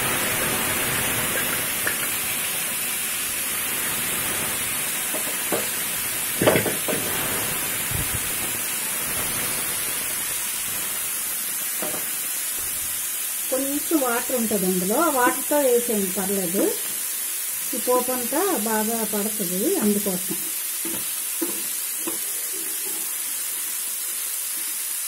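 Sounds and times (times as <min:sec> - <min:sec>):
carrots sizzling in hot oil: 0:00.0 - 0:25.0.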